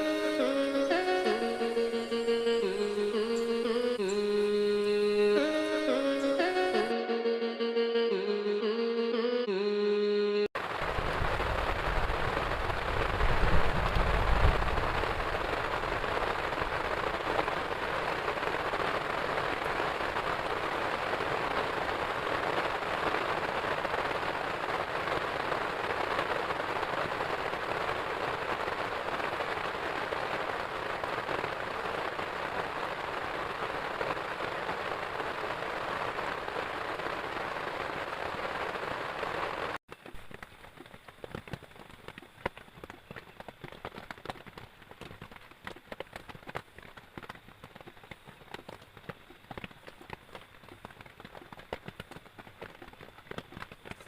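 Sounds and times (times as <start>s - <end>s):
heavy rain falling: 0.0s - 9.2s, 10.5s - 54.0s.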